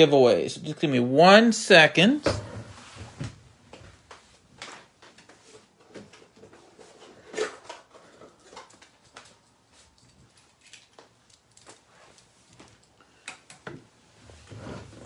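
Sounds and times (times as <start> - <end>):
objects being handled: 2.3 - 15.0.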